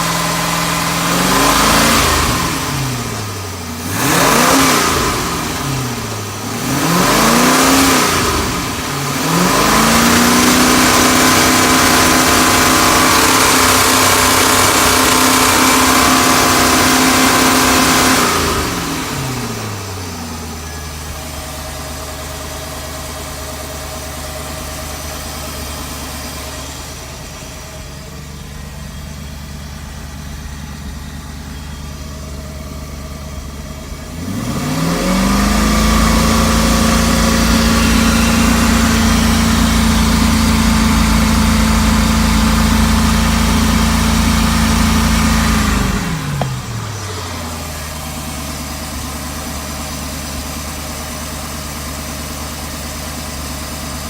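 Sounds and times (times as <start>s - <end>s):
boat engine revving and idling: 0.0s - 54.0s.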